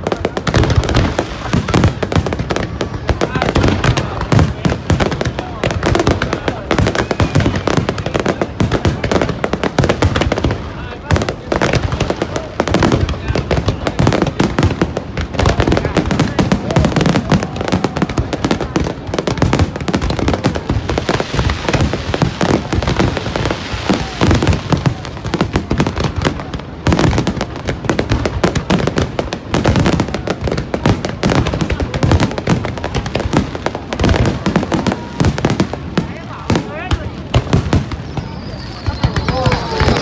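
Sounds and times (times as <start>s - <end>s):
deep fireworks booms: 0.0s - 40.0s
fireworks bangs and crackles: 0.0s - 40.0s.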